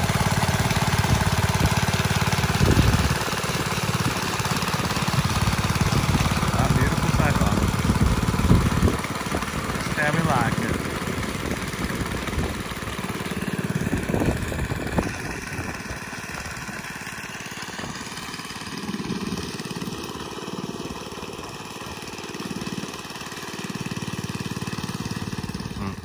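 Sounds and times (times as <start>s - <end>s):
small petrol engine running: 0.0s - 26.0s.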